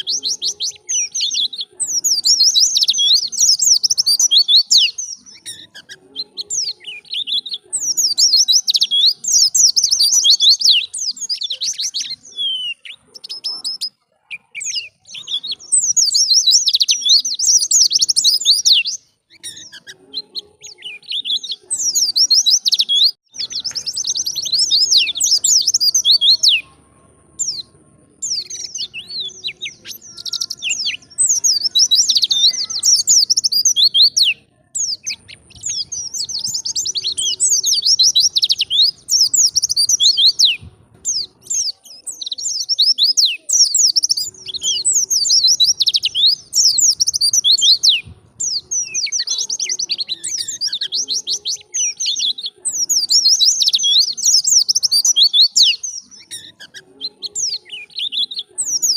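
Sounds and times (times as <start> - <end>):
bird high twittering song: 0.0 - 58.9.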